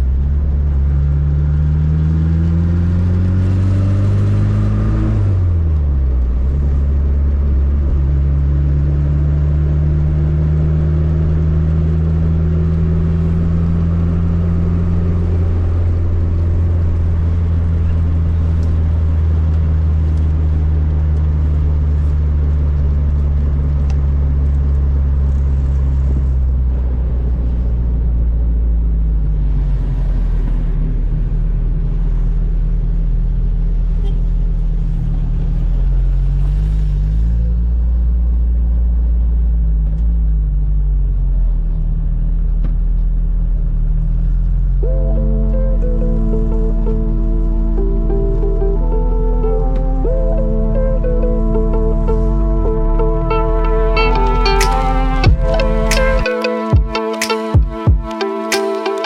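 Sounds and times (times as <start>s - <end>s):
car engine at speed: 0.0s - 59.0s.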